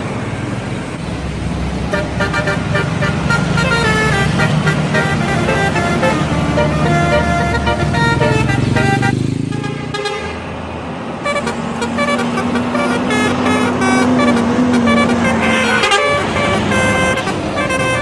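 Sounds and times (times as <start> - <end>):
bus engine running: 0.0 - 18.0
bus horn playing melody: 1.9 - 10.5, 11.2 - 18.0.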